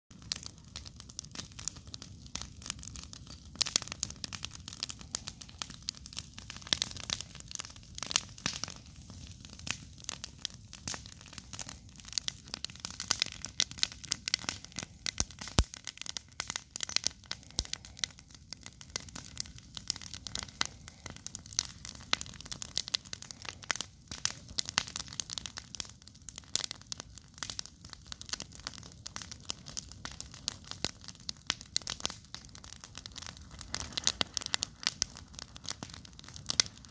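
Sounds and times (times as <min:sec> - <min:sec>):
campfire crackling: 0:00.1 - 0:36.9.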